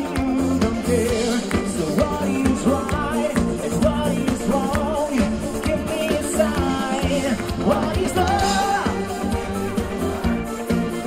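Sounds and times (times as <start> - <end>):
live band playing pop song: 0.0 - 11.0
person singing: 0.0 - 11.0.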